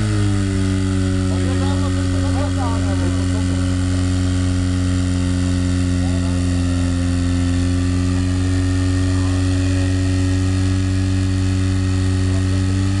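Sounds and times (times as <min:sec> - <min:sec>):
pump engine running steadily: 0:00.0 - 0:13.0.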